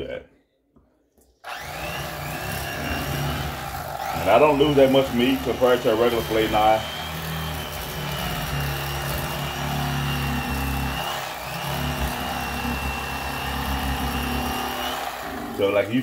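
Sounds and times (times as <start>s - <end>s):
electric knife motor buzzing: 1.4s - 15.8s.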